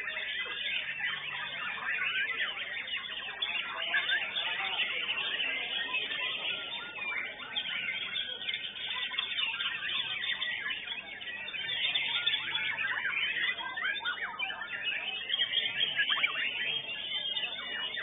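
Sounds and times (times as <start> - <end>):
bird singing whistles and trills: 0.0 - 18.0.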